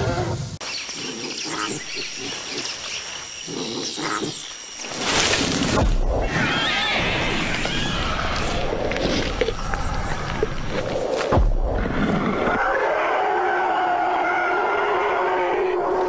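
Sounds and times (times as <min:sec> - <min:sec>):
forest ambience: 0:00.0 - 0:16.0.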